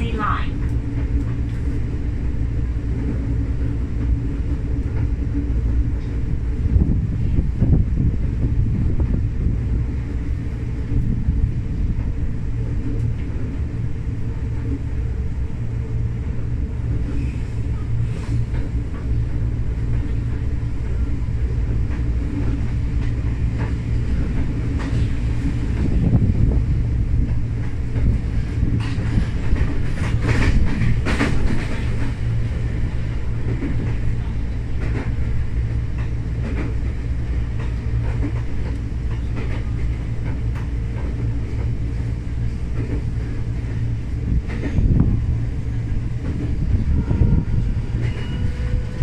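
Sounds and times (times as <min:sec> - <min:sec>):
wheels rumbling on rail: 0:00.0 - 0:49.0.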